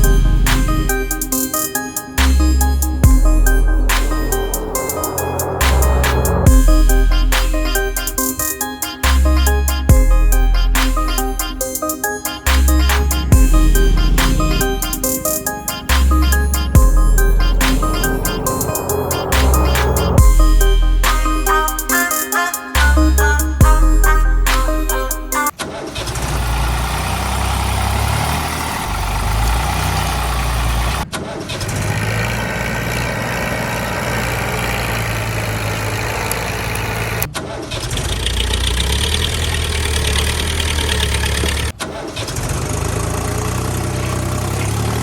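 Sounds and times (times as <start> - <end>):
tractor engine running: 0.0 - 21.9, 26.0 - 37.3, 37.9 - 45.0.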